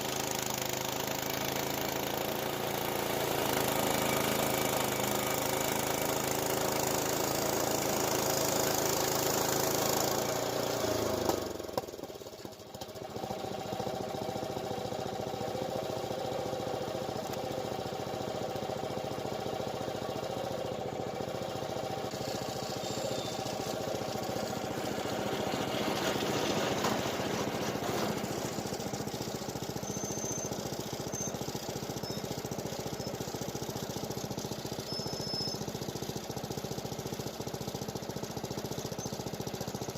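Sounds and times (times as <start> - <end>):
rough pulsing engine: 0.0 - 39.9
small gasoline engine running: 0.0 - 39.9.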